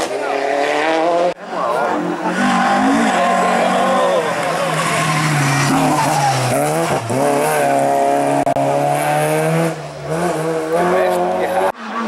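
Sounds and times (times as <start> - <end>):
racing car engine at high revs: 0.0 - 12.0.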